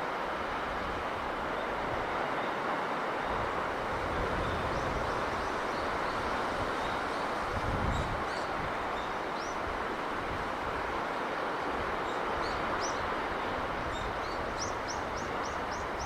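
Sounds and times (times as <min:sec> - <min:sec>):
sea breeze: 0:00.0 - 0:16.0
surf rumbling: 0:00.0 - 0:16.0.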